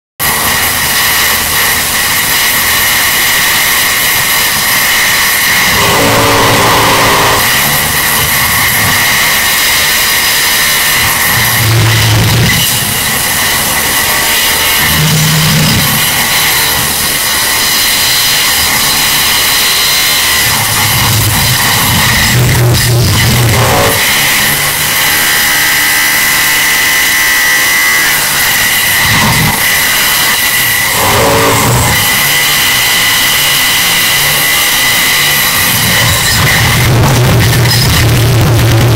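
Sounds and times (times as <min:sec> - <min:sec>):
machinery high whine: 0:00.2 - 0:38.9
low pitched hum: 0:00.3 - 0:17.7, 0:20.3 - 0:34.6.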